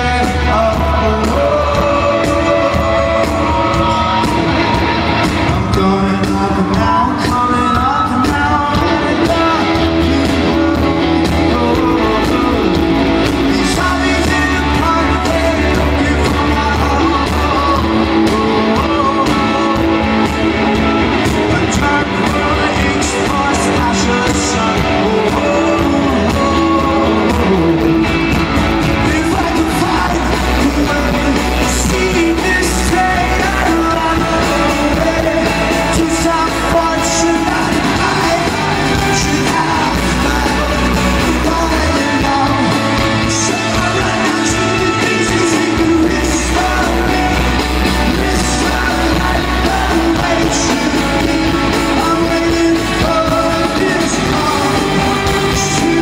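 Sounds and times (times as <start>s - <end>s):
lead singer singing: 0.0s - 56.0s
live rock band playing: 0.0s - 56.0s.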